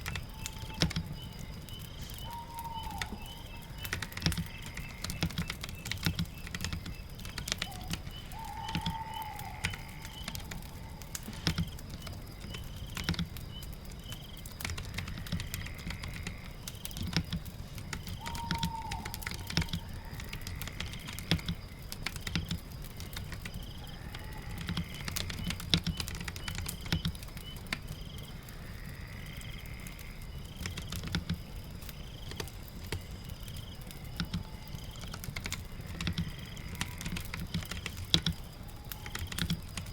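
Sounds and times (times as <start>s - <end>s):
typing on a keyboard: 0.0s - 28.3s, 30.5s - 39.9s
fireplace crackling: 0.0s - 39.9s
rain: 0.0s - 39.9s.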